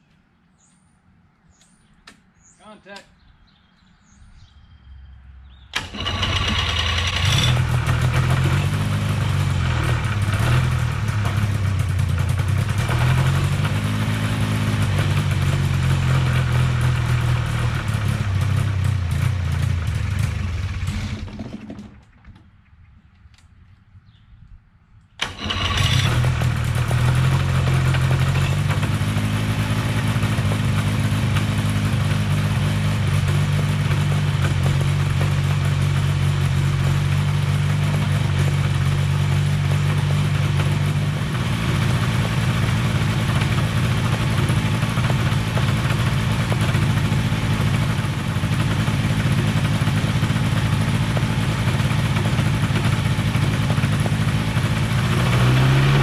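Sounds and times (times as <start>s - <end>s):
aircraft engine running: 5.5s - 22.1s, 25.2s - 56.0s.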